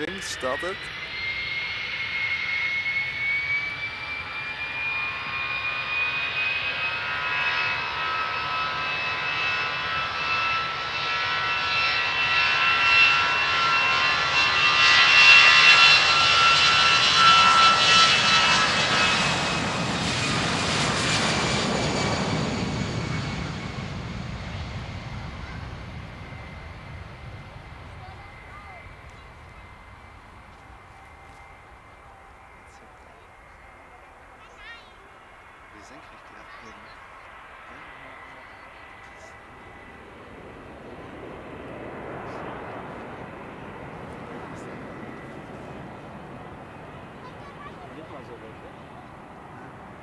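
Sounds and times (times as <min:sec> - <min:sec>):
jet airliner taking off: 0:00.0 - 0:50.0.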